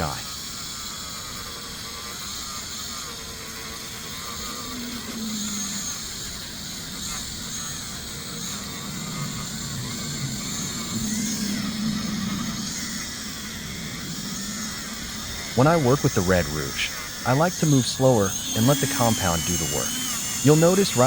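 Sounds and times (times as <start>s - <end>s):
electric polishing tool running: 0.0s - 21.0s.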